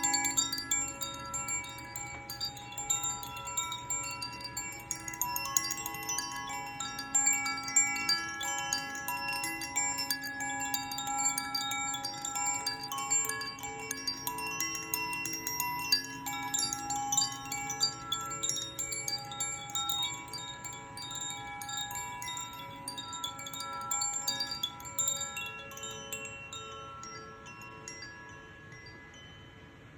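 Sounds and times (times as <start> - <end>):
chime ringing: 0.0 - 29.9.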